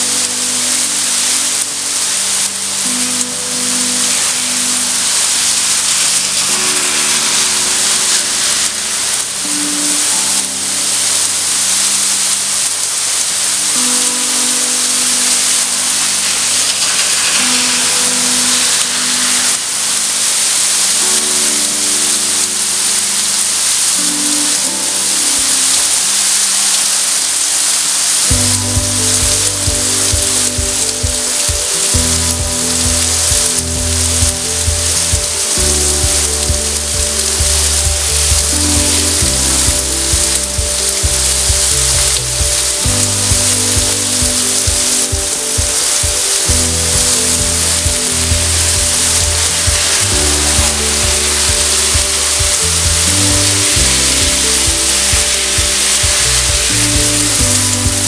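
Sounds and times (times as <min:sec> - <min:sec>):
background music: 0:00.0 - 0:58.0
heavy rain pouring: 0:00.0 - 0:58.0.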